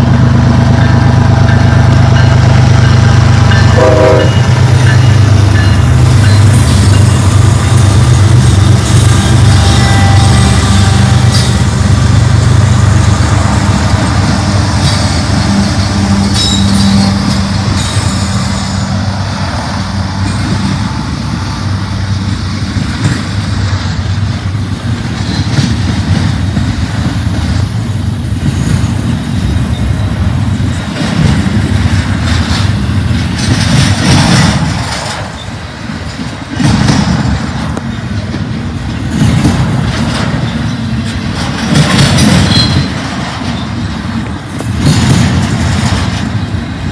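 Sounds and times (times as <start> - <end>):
diesel locomotive engine drone: 0.0 - 46.9
freight cars rumbling on rails: 0.0 - 46.9.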